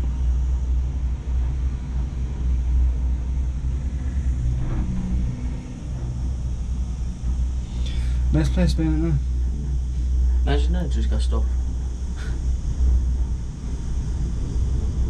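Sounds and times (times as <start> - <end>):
cable car gondola rumble: 0.0 - 15.0.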